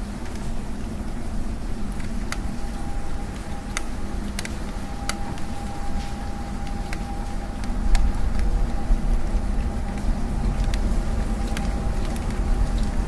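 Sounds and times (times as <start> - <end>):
city traffic rumble: 0.0 - 13.0
rain on a window: 0.0 - 13.0.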